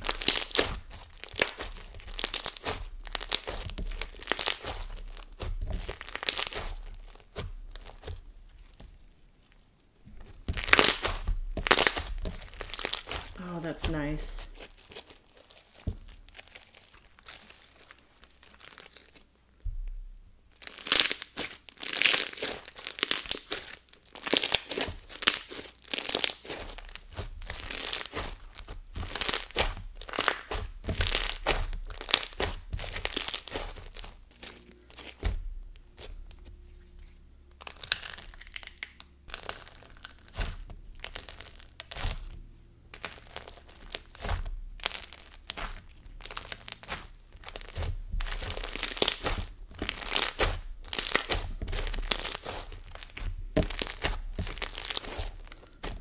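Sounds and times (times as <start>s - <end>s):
foam bead slime crackling: 0.0s - 56.0s.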